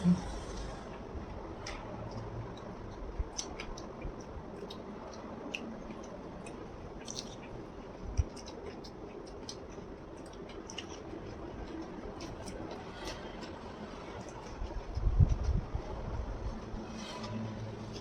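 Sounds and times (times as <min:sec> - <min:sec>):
chewing crispy pork skin: 0:01.6 - 0:16.8.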